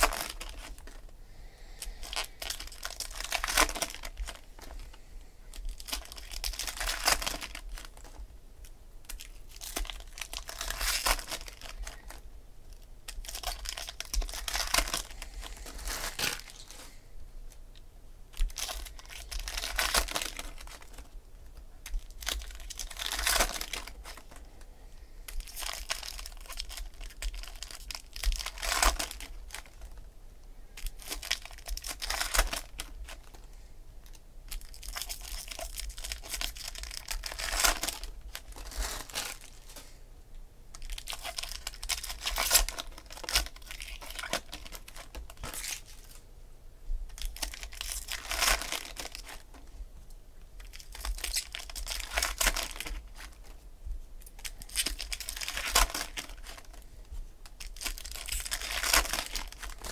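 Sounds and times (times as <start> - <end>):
foil wrappers tearing and crinkling: 0.0 - 1.0, 1.8 - 8.2, 9.0 - 16.9, 18.3 - 21.1, 21.8 - 24.4, 25.3 - 29.9, 30.8 - 39.8, 40.7 - 46.2, 47.1 - 49.6, 50.6 - 53.5, 54.2 - 56.8, 57.4 - 59.9.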